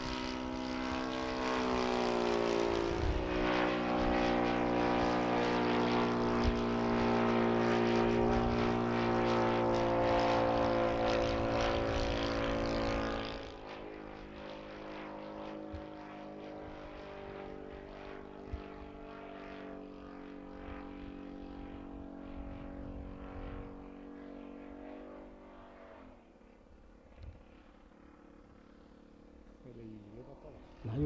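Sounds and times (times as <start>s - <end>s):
model plane engine droning: 0.0s - 31.0s.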